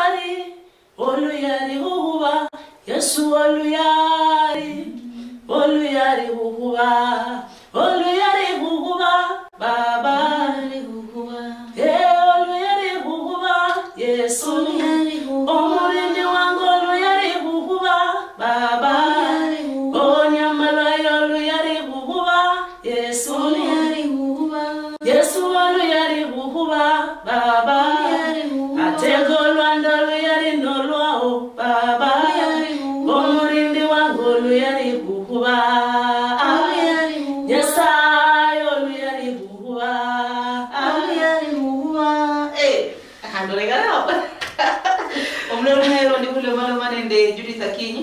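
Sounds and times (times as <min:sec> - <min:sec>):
woman singing gospel song: 0:00.0 - 0:44.3, 0:44.9 - 0:48.0.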